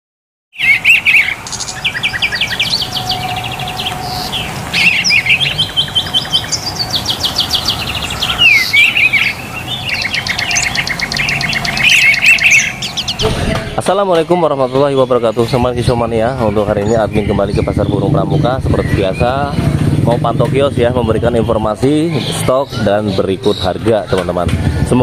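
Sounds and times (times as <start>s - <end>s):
songbirds singing: 0.5s - 25.0s.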